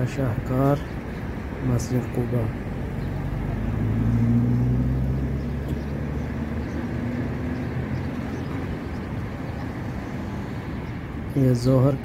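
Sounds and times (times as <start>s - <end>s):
outdoor rumble: 0.0s - 12.0s.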